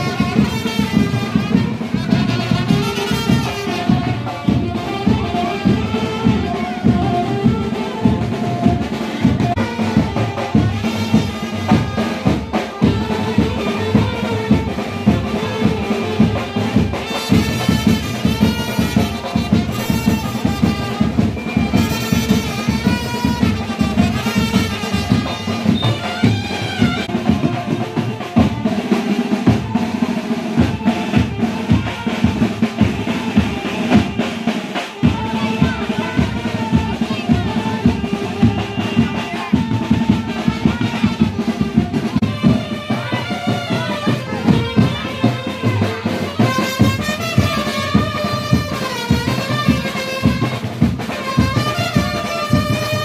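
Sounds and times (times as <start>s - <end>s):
music with fast drumming: 0.0s - 53.0s.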